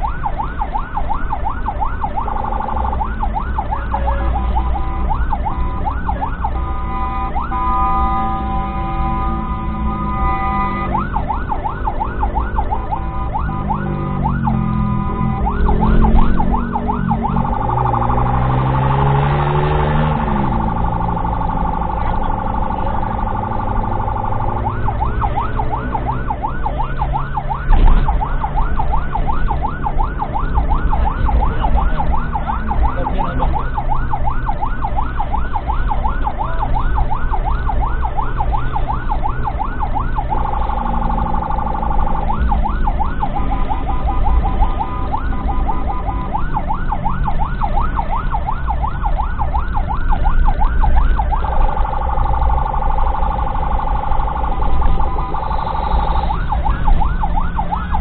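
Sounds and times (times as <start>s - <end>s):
ambulance siren warbling: 0.0s - 58.0s.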